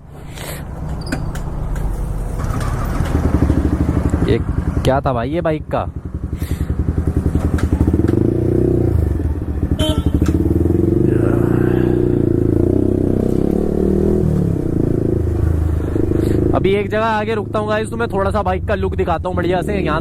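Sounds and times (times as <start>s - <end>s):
motorcycle engine: 0.7s - 20.0s.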